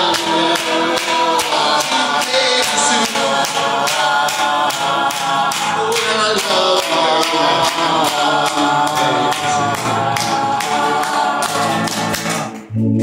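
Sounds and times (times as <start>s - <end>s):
steady beat: 0.0s - 13.0s
voices singing in harmony: 0.0s - 13.0s.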